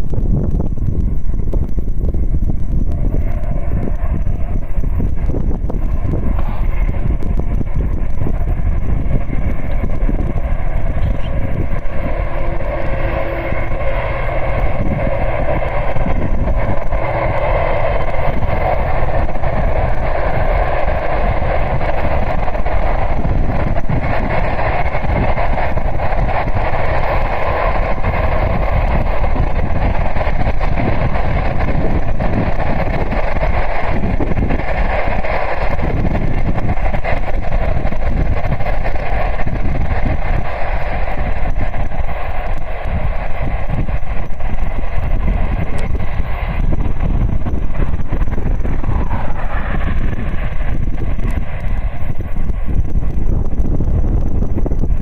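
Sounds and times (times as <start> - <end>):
train rolling past: 0.0 - 55.0.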